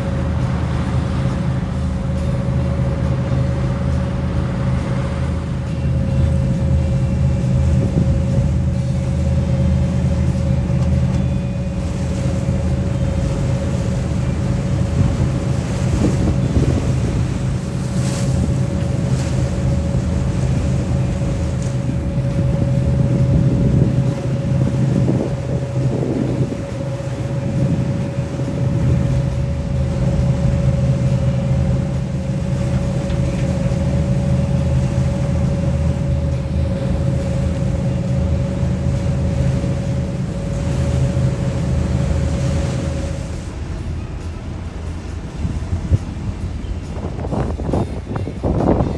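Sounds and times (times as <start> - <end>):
ferry engine droning: 0.0 - 48.9
thin steady whine: 0.0 - 48.9
wind buffeting microphone: 0.0 - 48.9.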